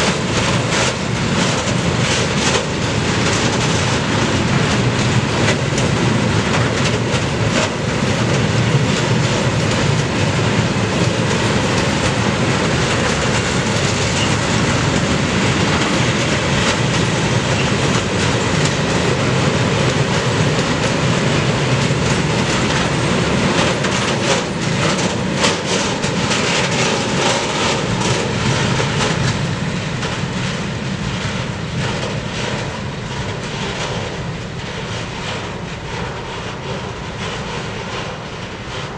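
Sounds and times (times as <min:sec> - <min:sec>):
clattering over rail joints: 0:00.0 - 0:38.9
train wheels rumbling on rails: 0:00.0 - 0:38.9.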